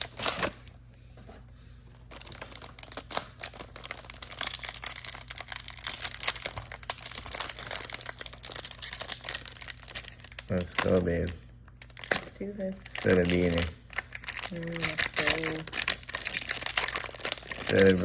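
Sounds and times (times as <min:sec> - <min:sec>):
packaging crinkling and tearing: 0:00.0 - 0:00.7, 0:02.0 - 0:18.0.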